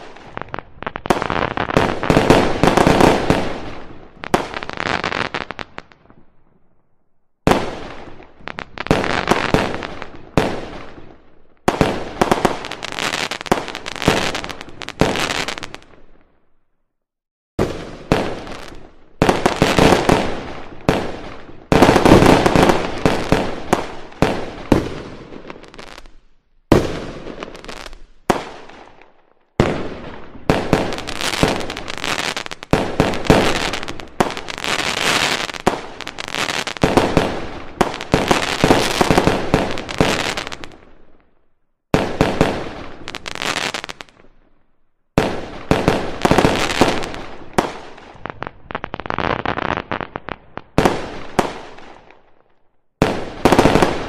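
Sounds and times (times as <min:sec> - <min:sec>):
fireworks bursting and crackling: 0:00.0 - 0:06.4, 0:07.4 - 0:16.4, 0:17.6 - 0:54.0.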